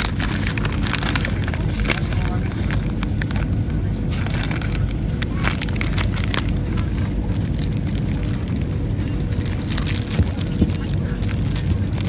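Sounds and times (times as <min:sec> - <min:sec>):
airplane cabin drone: 0:00.0 - 0:12.0
plastic packaging crinkling: 0:00.0 - 0:12.0.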